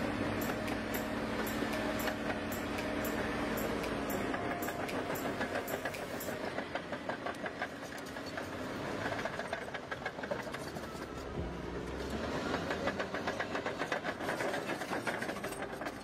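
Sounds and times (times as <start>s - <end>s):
diesel engine hum: 0.0s - 16.0s
steel tracks clanking: 0.0s - 16.0s.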